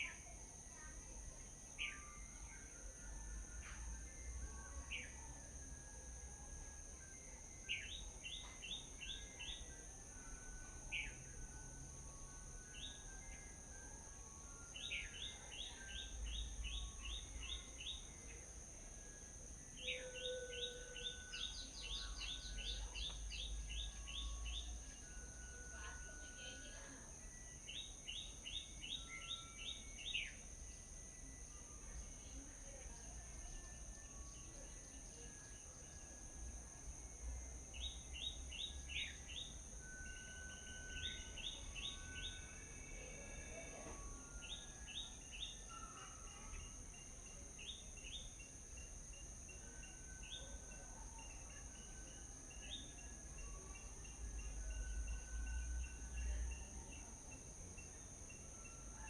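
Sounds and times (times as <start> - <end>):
high-pitched insect hum: 0.0 - 59.0.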